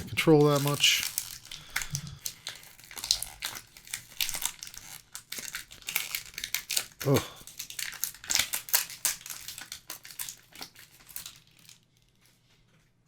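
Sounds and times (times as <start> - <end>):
wrapper being torn and crinkled: 0.0 - 12.6.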